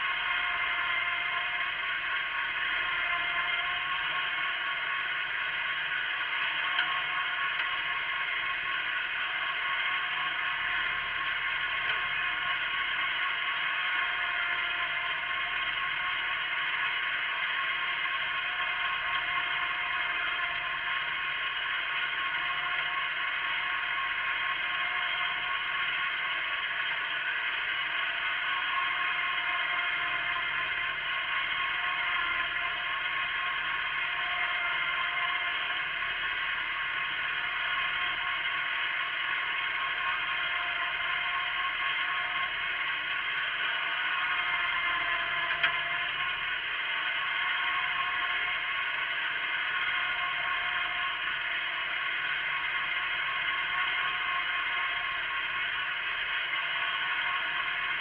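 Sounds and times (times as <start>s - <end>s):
garden tractor running: 0.0s - 58.0s.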